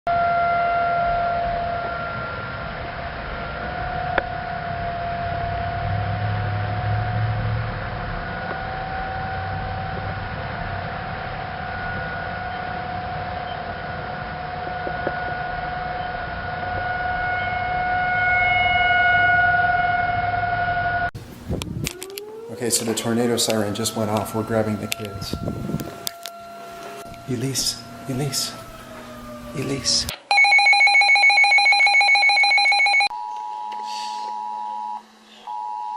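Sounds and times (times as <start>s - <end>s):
tornado warning siren wailing: 0.1s - 35.9s.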